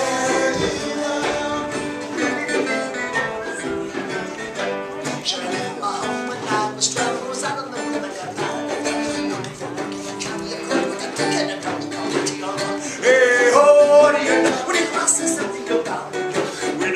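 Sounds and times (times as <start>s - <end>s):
acoustic band playing: 0.0s - 16.9s
strummed acoustic guitar: 0.0s - 16.9s.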